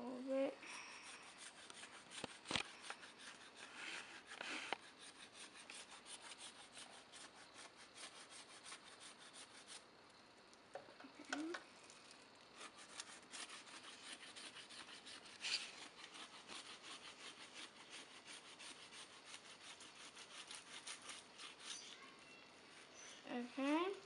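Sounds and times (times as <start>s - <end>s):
knife scraping wooden stick: 0.7s - 9.8s, 12.0s - 23.5s.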